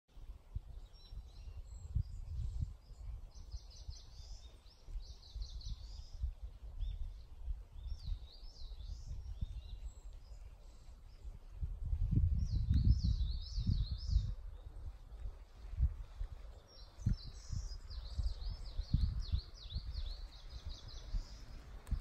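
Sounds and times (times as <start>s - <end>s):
songbirds singing: 0.1s - 22.0s
wind buffeting microphone: 0.1s - 22.0s.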